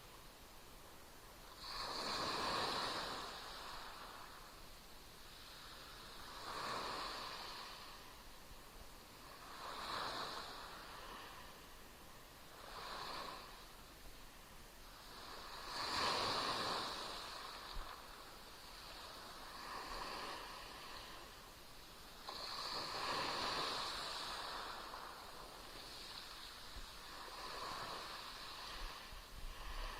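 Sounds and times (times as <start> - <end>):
small waves washing on shore: 0.0 - 29.9.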